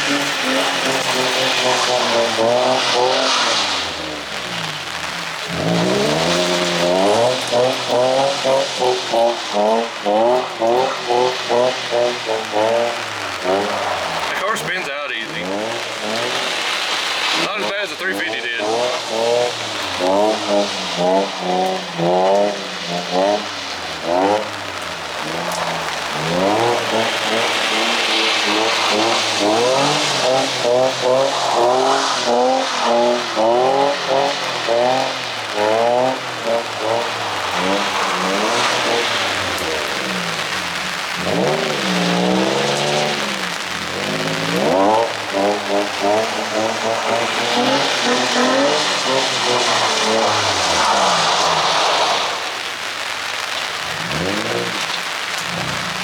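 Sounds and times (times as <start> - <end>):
car engine revving hard: 0.0 - 56.0
tyres spinning on wet pavement: 0.0 - 56.0.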